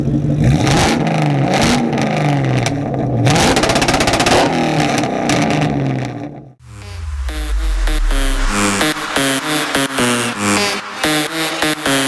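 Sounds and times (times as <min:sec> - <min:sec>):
car engine revving: 0:00.4 - 0:12.0.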